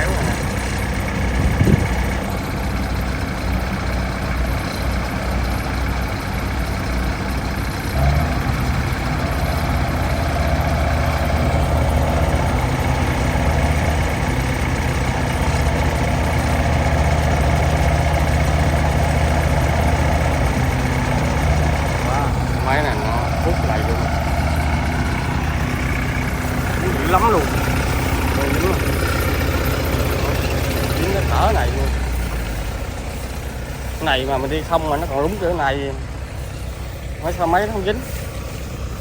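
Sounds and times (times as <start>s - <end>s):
diesel engines under load: 0.0s - 39.0s.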